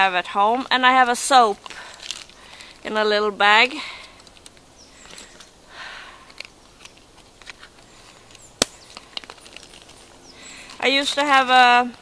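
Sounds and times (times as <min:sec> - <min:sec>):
bags and gear rustling: 0:01.3 - 0:02.9, 0:03.8 - 0:12.0.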